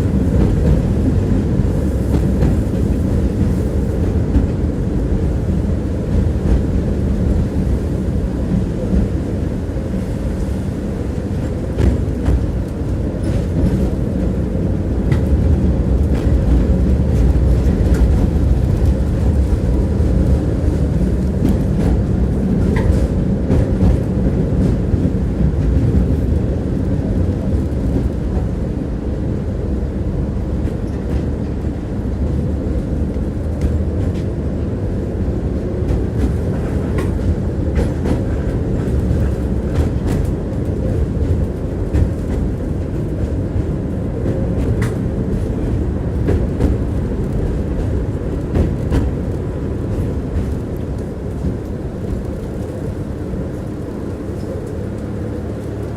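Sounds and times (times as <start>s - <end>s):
tram wheels rumbling on rail: 0.0s - 55.9s.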